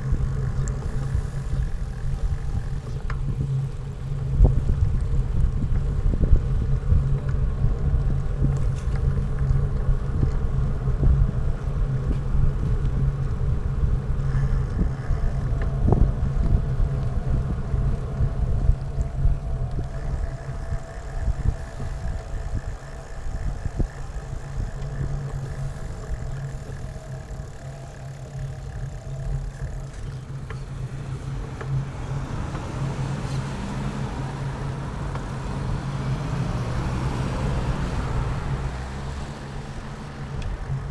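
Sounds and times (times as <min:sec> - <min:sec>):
faint steady tones: 0:00.0 - 0:40.9
vehicle and road rumble: 0:00.0 - 0:40.9.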